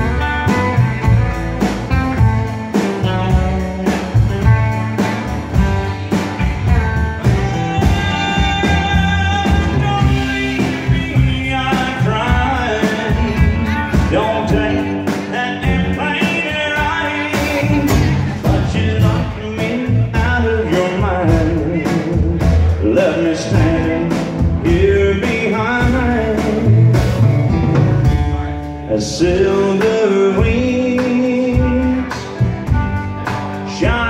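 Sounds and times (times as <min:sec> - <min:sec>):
lead guitar with bent notes: 0:00.0 - 0:34.0
live country band playing: 0:00.0 - 0:34.0.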